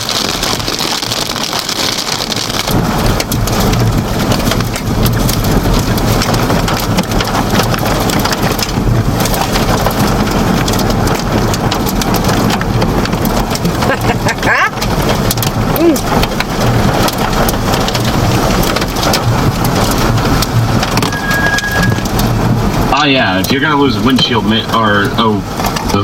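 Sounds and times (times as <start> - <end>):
low rumble: 0.0 - 26.0
rain and hail pelting vehicle roof: 0.0 - 26.0.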